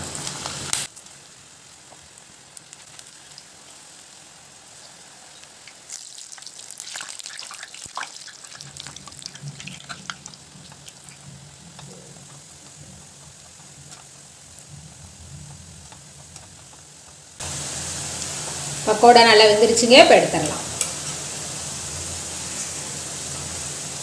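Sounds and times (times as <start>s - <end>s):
oil crackling and popping: 0.0s - 18.9s, 20.7s - 23.6s
batter sizzling in oil: 0.0s - 24.0s.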